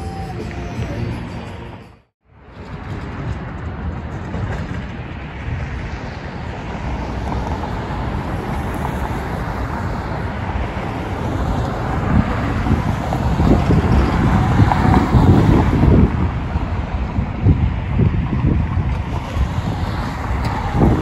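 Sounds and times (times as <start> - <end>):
passing car traffic: 0.0 - 21.0.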